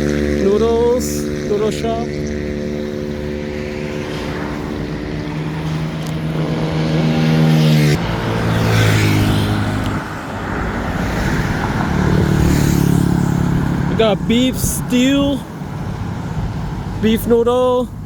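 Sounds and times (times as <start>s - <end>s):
vehicles passing by: 0.0s - 18.0s.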